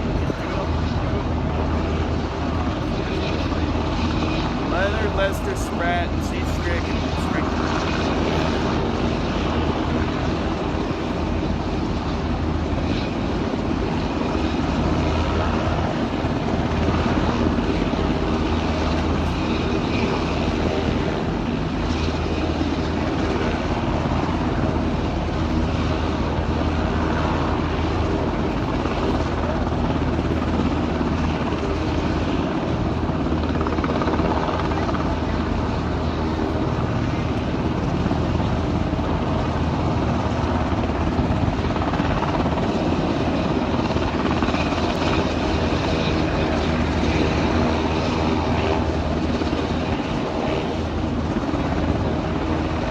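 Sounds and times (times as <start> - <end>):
aircraft engines droning: 0.0 - 52.9.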